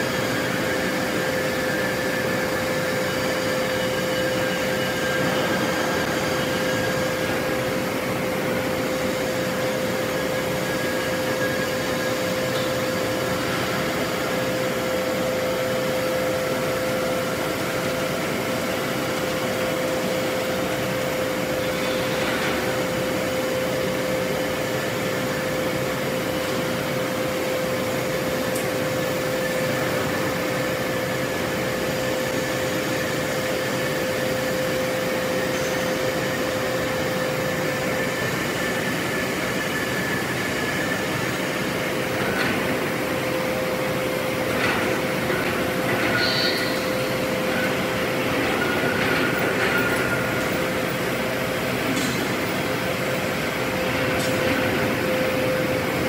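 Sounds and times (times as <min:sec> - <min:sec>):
furnace rushing drone: 0:00.0 - 0:56.0.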